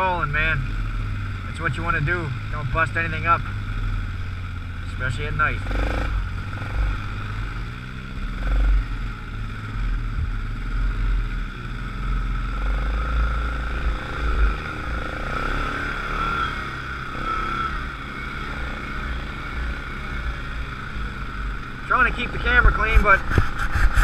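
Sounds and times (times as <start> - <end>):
atv engine running at low speed: 0.0 - 24.0.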